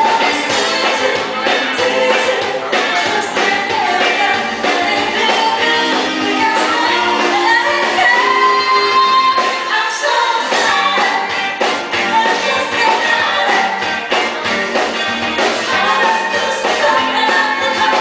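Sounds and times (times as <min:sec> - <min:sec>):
woman singing into a microphone: 0:00.0 - 0:11.3, 0:12.1 - 0:13.8, 0:15.6 - 0:18.0
live band playing: 0:00.0 - 0:18.0.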